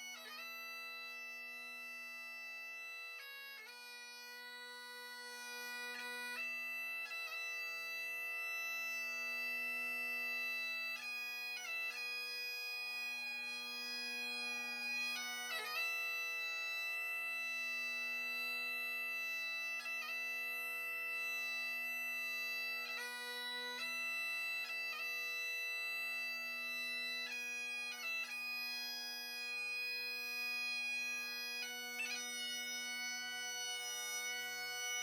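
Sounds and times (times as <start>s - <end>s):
bagpipes playing slow tune: 0.0s - 35.0s.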